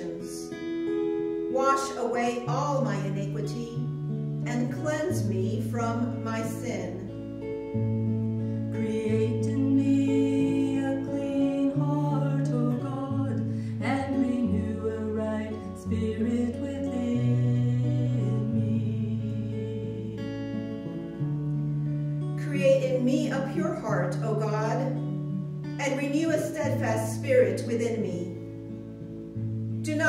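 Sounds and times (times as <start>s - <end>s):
strummed acoustic guitar chords: 0.0s - 30.0s.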